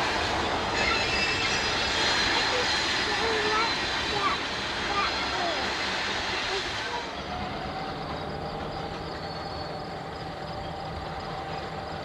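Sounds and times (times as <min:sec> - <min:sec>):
diesel locomotive running: 0:00.0 - 0:12.0.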